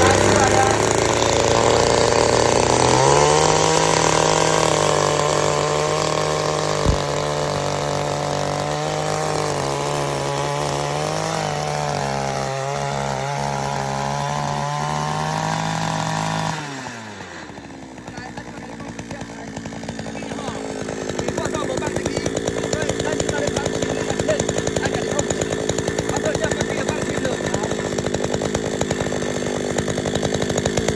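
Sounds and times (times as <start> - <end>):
small two-stroke engine running: 0.0 - 30.9.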